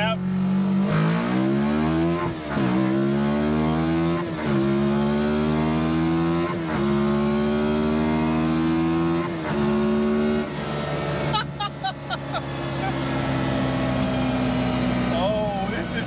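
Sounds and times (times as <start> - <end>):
engine accelerating hard: 0.0 - 16.0.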